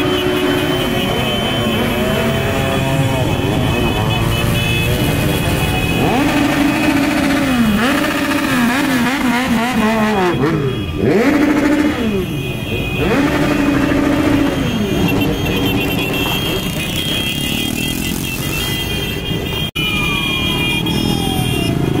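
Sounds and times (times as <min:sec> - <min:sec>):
motorcycles rumbling past: 0:00.0 - 0:18.9
motorcycle engines revving: 0:00.0 - 0:22.0.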